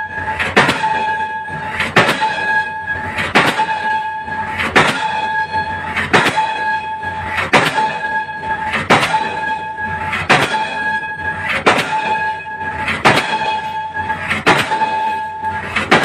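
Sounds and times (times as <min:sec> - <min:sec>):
pile hammer striking concrete pile: 0:00.4 - 0:16.0.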